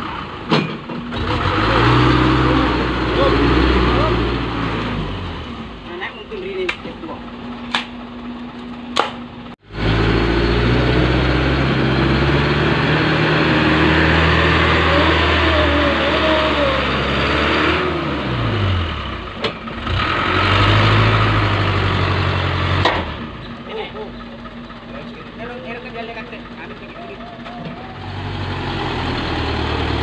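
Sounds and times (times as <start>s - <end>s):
diesel truck engine revving: 0.0s - 6.4s, 7.1s - 30.0s.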